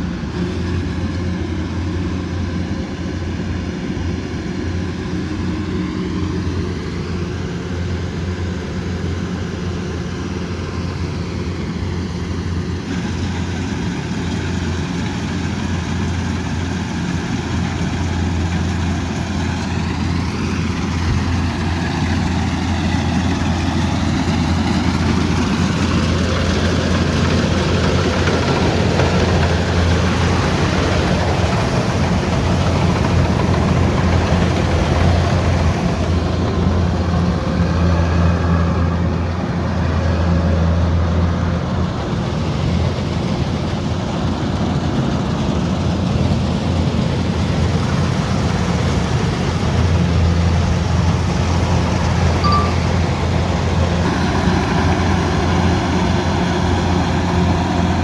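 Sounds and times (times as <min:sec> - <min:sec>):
diesel engine humming under load: 0:00.0 - 0:58.0.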